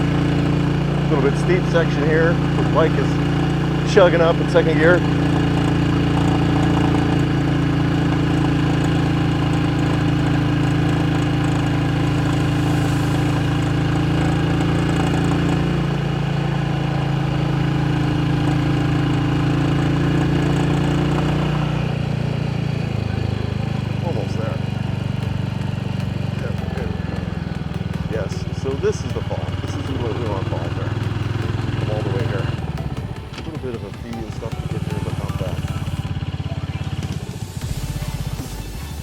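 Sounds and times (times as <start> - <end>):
motorcycle engine chugging: 0.0 - 39.0.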